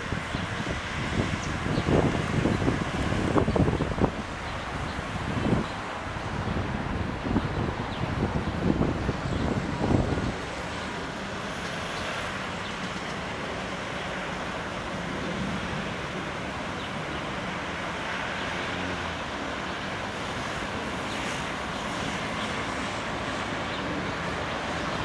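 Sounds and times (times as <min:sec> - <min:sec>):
jet airliner rumble: 0:00.0 - 0:25.0.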